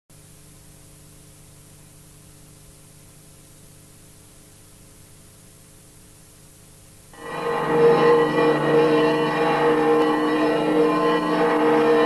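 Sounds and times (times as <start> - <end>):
static hiss: 0.1 - 12.0.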